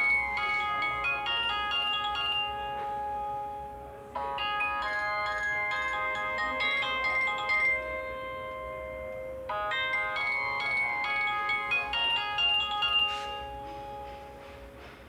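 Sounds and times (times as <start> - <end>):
mobile phone ringtone melody: 0.0 - 14.4.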